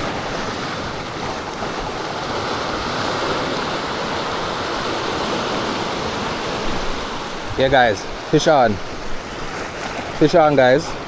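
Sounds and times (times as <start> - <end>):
sea surf washing on shore: 0.0 - 11.0.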